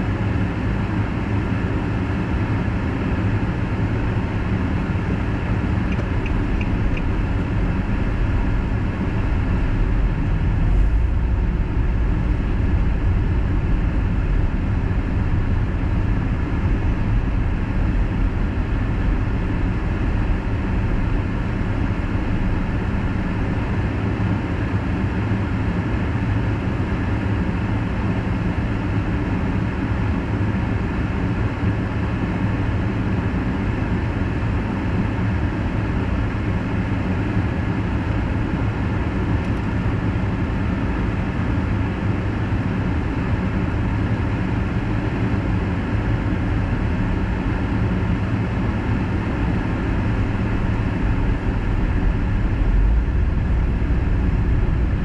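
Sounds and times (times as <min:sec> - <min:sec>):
tyre and engine rumble: 0:00.0 - 0:29.4, 0:30.0 - 0:55.0.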